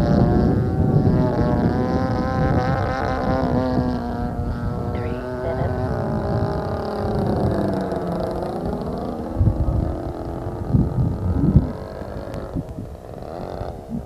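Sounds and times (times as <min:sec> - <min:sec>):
model airplane engine running: 0:00.0 - 0:14.0.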